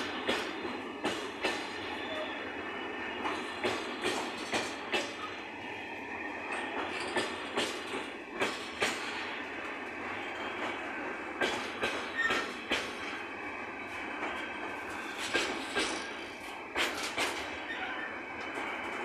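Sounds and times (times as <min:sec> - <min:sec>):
wheels clacking over rail joints: 0:00.0 - 0:02.3, 0:03.1 - 0:05.8, 0:06.4 - 0:19.0
train wheels rumbling on rails: 0:00.0 - 0:19.0.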